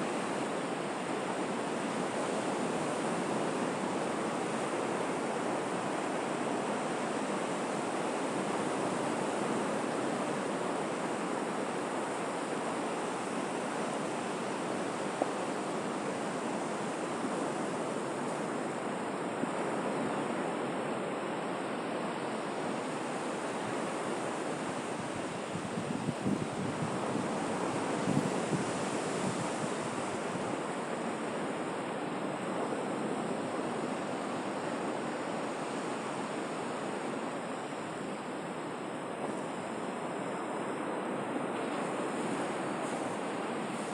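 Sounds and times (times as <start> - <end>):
sea waves breaking: 0.0 - 43.9.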